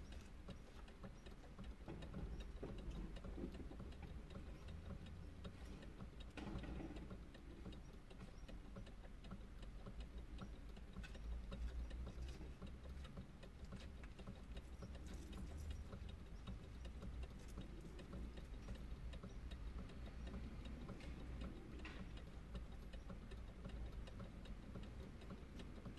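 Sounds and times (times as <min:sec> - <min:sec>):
light ticking clicks: 0:00.0 - 0:25.9
low rumble inside car: 0:00.0 - 0:25.9.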